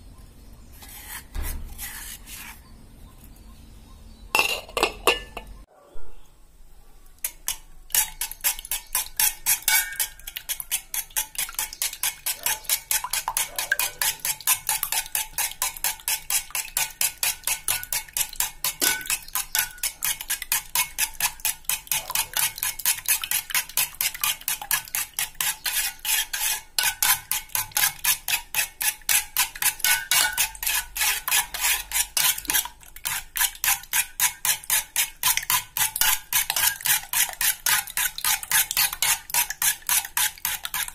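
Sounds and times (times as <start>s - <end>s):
spoon clinking against metal pot: 4.3s - 5.6s, 7.2s - 40.9s.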